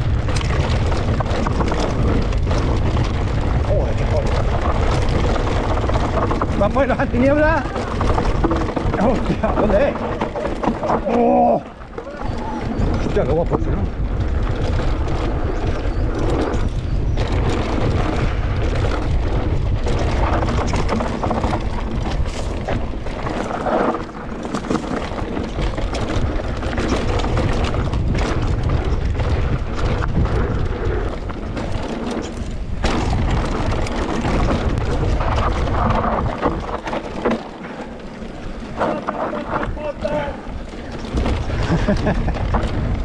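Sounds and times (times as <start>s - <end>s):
bike rattling over rough ground: 0.0s - 43.0s
bike tyre noise: 0.0s - 43.0s
wind buffeting microphone: 0.0s - 43.0s.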